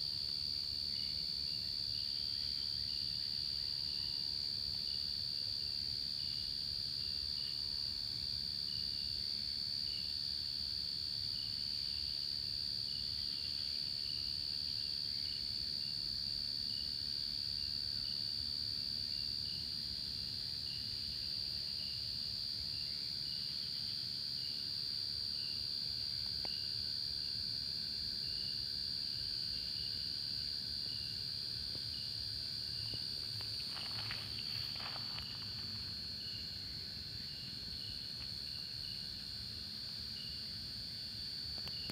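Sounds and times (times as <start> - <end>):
crickets chirring: 0.0 - 41.9.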